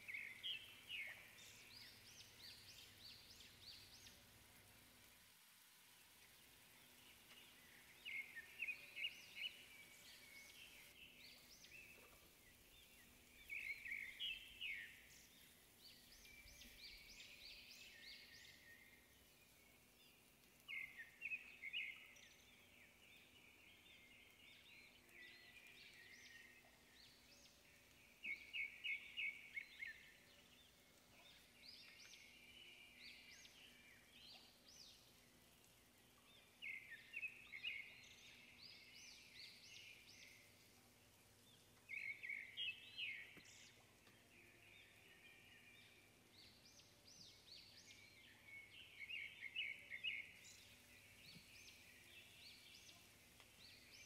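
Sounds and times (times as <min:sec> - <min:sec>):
faint bird song: 0:00.0 - 0:54.0.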